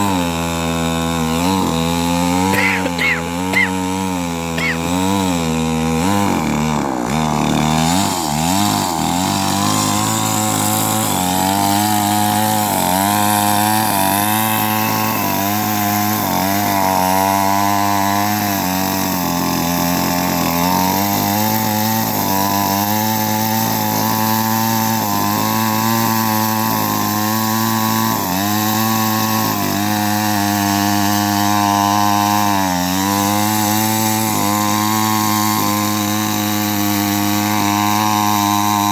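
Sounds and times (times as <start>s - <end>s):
chainsaw cutting through trunk: 0.0s - 38.9s.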